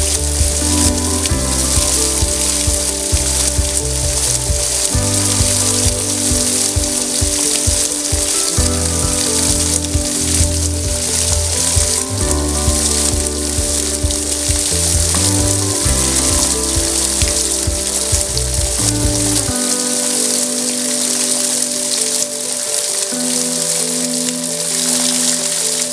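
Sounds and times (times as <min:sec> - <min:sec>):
background music with chords and bass: 0:00.0 - 0:25.9
heavy rain on plants: 0:00.0 - 0:25.9.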